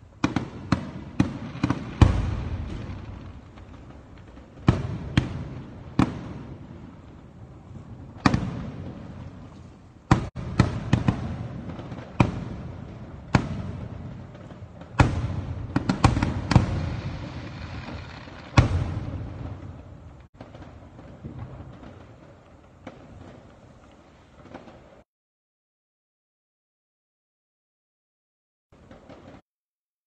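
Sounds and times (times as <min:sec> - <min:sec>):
fireworks bursting with bangs: 0:00.0 - 0:25.0, 0:28.8 - 0:29.4.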